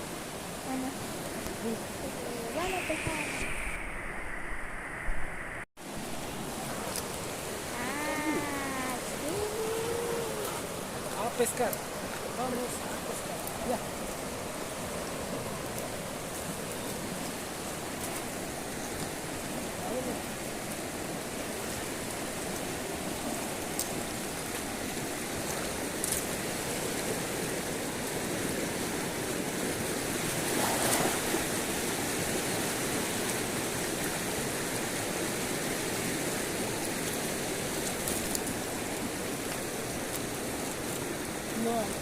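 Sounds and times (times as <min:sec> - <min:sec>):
river water rushing over rocks: 0:00.0 - 0:42.0.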